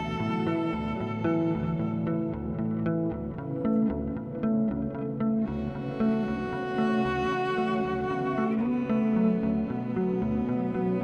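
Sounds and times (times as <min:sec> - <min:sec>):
plucked guitar with bass and beat: 0:00.0 - 0:11.0.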